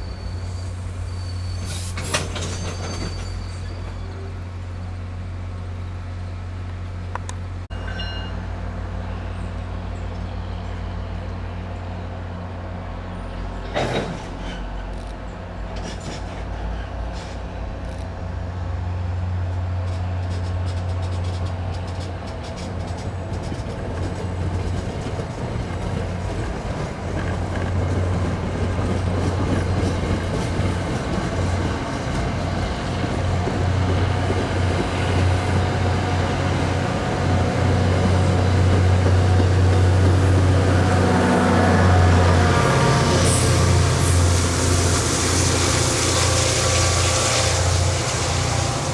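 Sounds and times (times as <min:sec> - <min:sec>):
train rumbling: 0:00.0 - 0:48.9.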